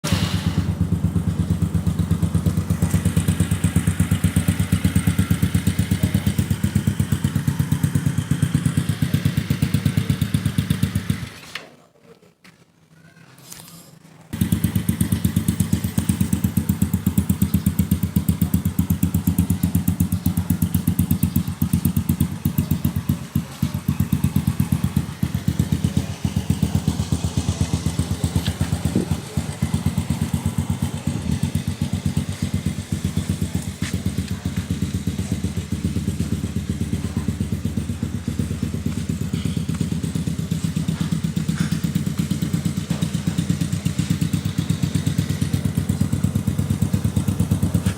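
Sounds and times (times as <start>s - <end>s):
scooter engine idling: 0.0s - 11.6s, 14.3s - 47.9s.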